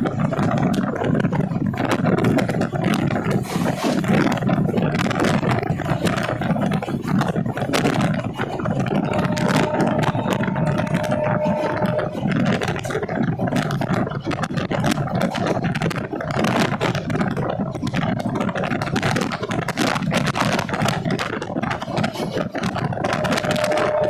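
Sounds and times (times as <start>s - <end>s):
passenger train rumbling and rattling: 0.0s - 24.0s.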